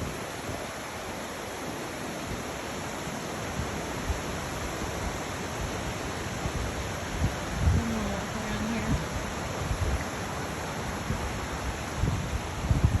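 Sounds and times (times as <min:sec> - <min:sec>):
water rushing over falls: 0:00.0 - 0:13.0.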